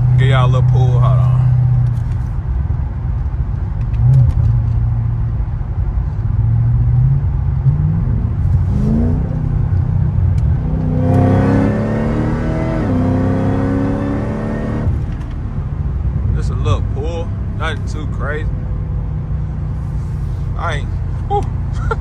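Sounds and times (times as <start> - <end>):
car engine accelerating: 0.0 - 5.4, 6.0 - 22.0.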